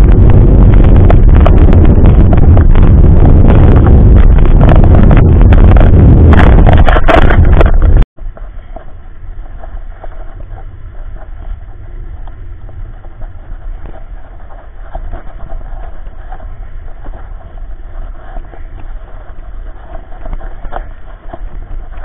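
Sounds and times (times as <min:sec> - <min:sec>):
wheels rolling over asphalt: 0:00.0 - 0:22.0
wind buffeting on camera: 0:00.0 - 0:22.0.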